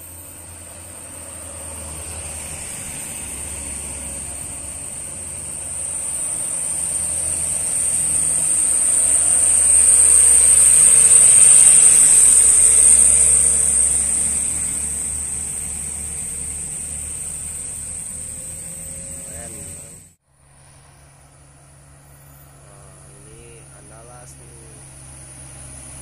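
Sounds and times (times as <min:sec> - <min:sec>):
diesel truck driving past: 0:00.0 - 0:26.0
steady high-pitched hiss: 0:02.8 - 0:25.9.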